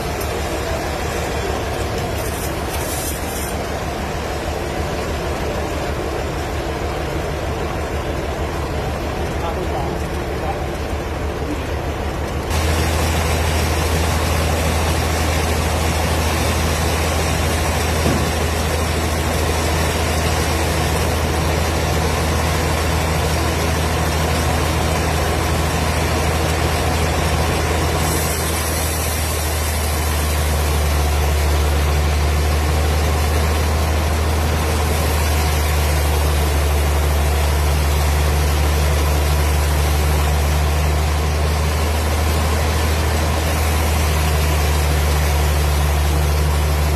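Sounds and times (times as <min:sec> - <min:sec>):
wood-cutting machine humming: 0:00.0 - 0:46.9.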